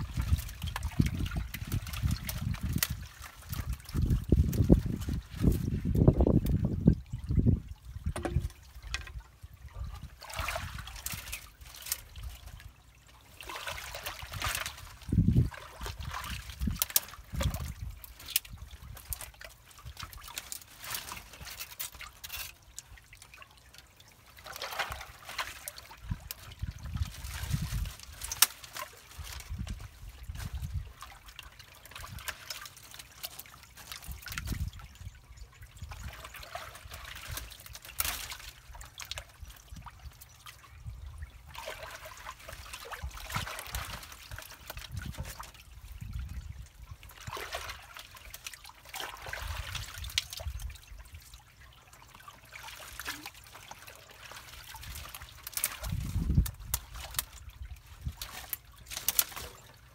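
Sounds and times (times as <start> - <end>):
sticks splashing and knocking in water: 0.0 - 6.8, 8.1 - 35.0, 35.8 - 40.6, 41.4 - 51.0, 52.1 - 59.9
floodwater trickling and gurgling: 0.0 - 59.9.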